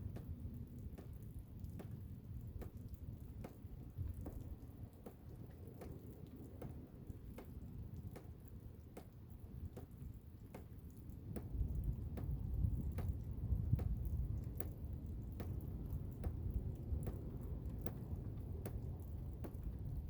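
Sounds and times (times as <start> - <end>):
blizzard wind low rumble: 0.0 - 20.0
light irregular ticks: 0.0 - 20.0.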